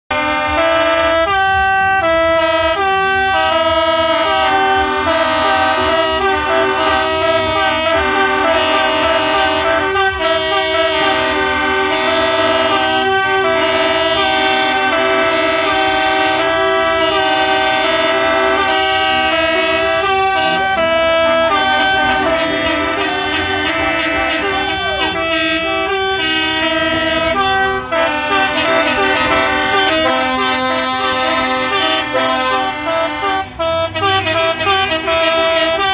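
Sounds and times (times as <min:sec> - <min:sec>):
truck air horns playing a tune: 0:00.1 - 0:35.9.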